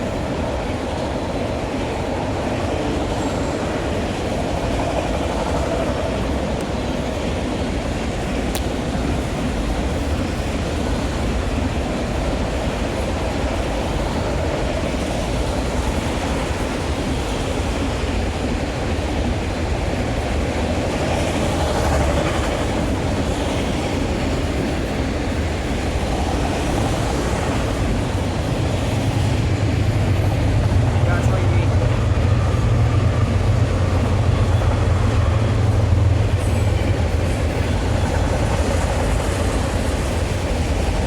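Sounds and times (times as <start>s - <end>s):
freight train rolling past: 0.0s - 41.0s.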